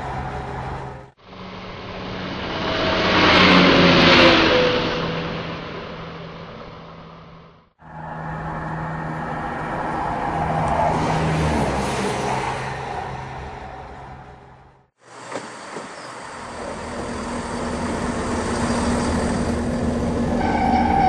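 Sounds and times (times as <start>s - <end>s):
train diesel engine drone: 0.0s - 21.0s.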